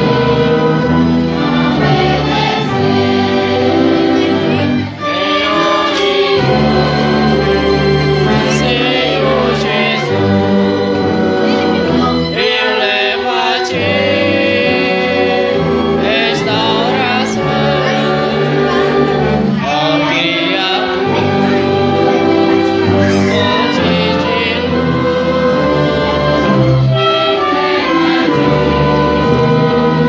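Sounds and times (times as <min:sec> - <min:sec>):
congregation singing a hymn: 0:00.0 - 0:30.0
instrumental accompaniment: 0:00.0 - 0:30.0.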